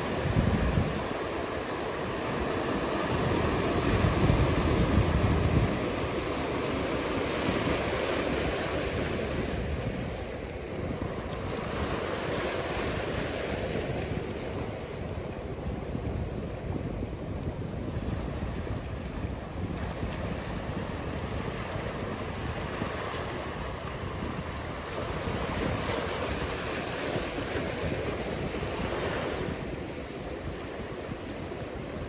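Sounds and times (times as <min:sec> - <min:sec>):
ocean surf washing: 0:00.0 - 0:32.0
wind rumbling on microphone: 0:00.0 - 0:32.0.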